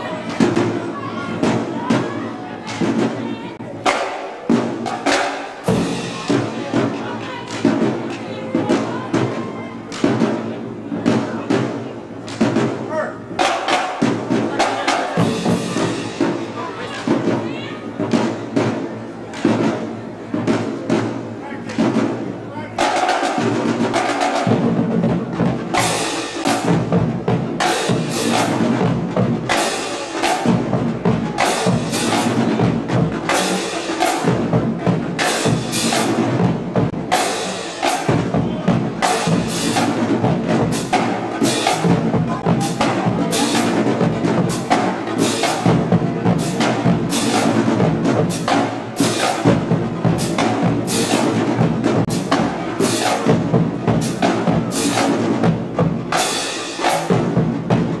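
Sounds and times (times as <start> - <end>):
bass drums: 0.0 - 58.0
marching drumline cadence: 0.0 - 58.0.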